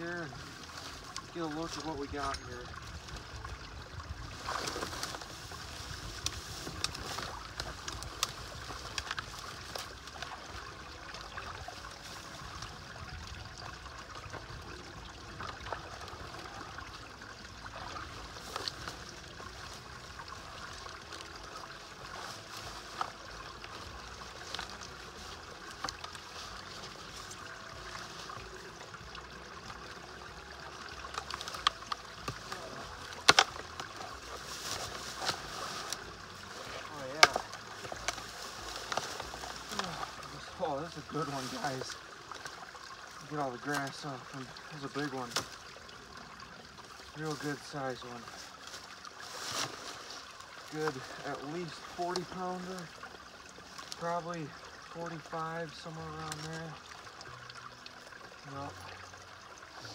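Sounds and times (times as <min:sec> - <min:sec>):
dry grass rustling: 0:00.0 - 0:55.5
water trickling and dripping: 0:00.0 - 0:59.9.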